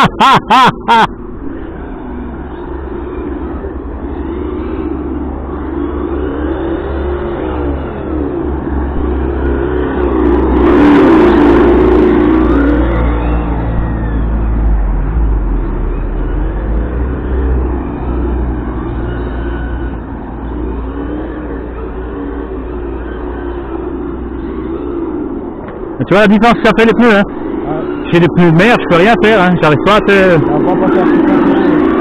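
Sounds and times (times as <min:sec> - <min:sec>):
simulated engine revving: 0:00.0 - 0:32.0.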